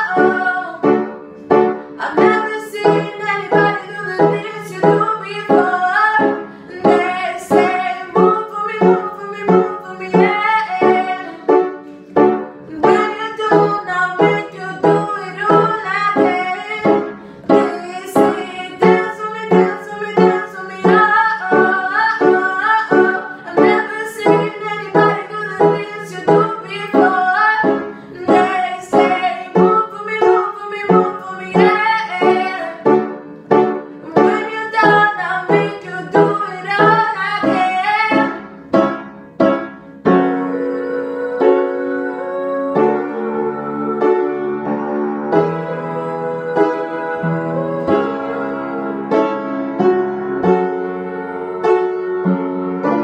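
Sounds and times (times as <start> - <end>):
woman singing: 0.0 - 1.2, 1.9 - 11.6, 12.6 - 33.0, 34.0 - 38.4, 40.1 - 44.8, 45.4 - 49.2
keyboard chords: 0.0 - 53.0.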